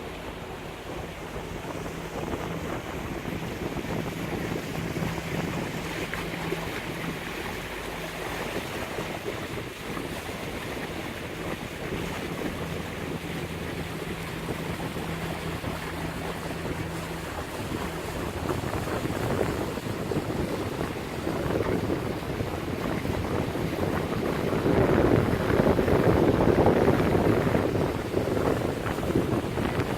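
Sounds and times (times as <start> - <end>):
boat engine hum: 0.0 - 29.9
water rushing past hulls: 0.0 - 29.9
wind buffeting microphone: 0.0 - 29.9.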